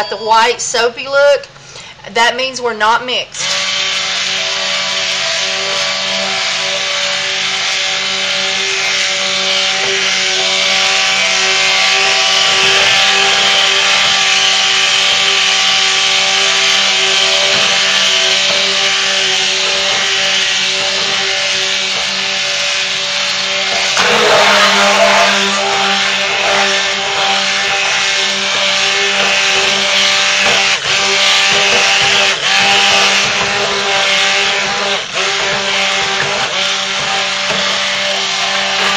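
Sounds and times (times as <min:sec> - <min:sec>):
stick blender motor whining: 0:03.4 - 0:38.9.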